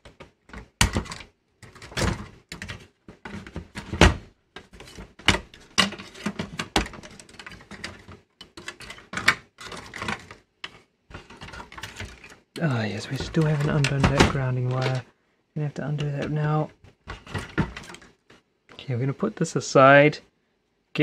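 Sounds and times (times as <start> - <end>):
plastic and metal parts bumping: 0.0 - 15.0, 16.2 - 18.2
connectors clicking and rustling: 0.0 - 15.1, 16.0 - 18.8.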